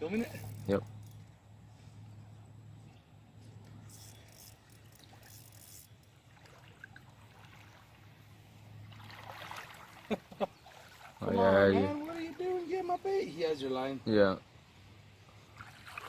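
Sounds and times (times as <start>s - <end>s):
river water trickling: 0.0s - 16.0s.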